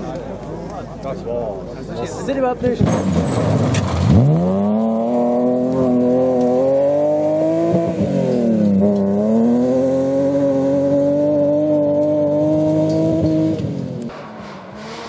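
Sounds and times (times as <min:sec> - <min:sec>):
rally car engine at high revs: 0:02.8 - 0:15.0.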